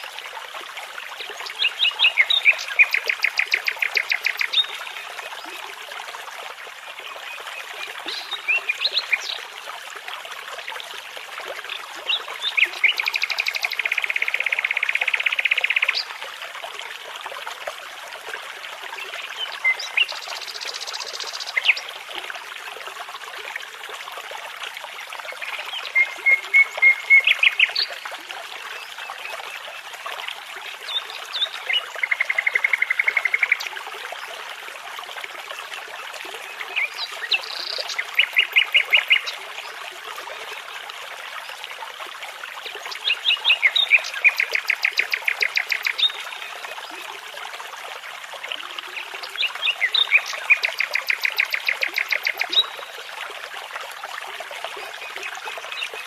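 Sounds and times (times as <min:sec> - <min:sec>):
babbling brook: 0:00.0 - 0:56.0.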